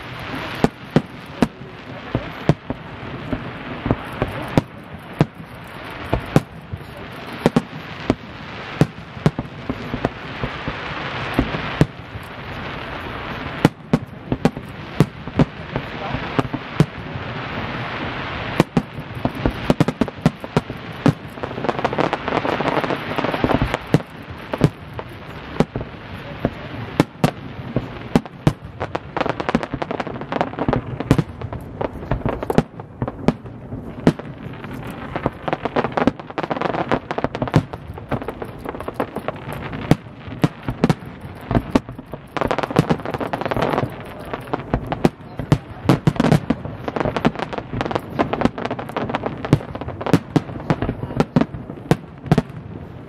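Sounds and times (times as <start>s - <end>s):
constant rushing noise: 0.0s - 51.9s
firework shells bursting: 0.0s - 52.9s.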